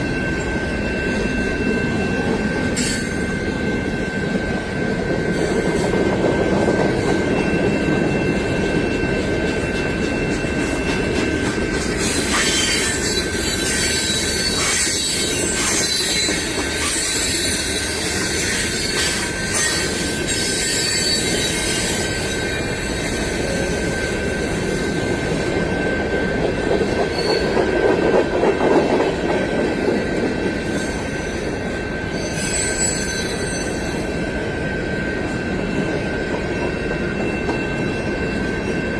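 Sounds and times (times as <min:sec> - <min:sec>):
train wheels squealing on rail: 0:00.0 - 0:38.9.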